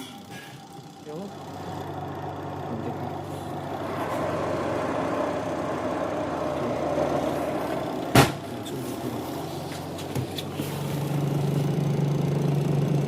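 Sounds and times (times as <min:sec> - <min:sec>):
washing machine spin whirring: 0:00.0 - 0:13.0.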